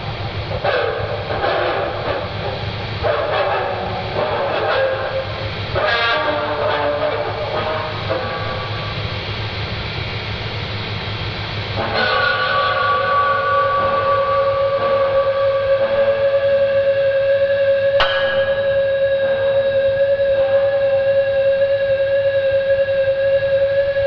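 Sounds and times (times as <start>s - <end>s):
dark ambient drone music: 0.0s - 24.0s.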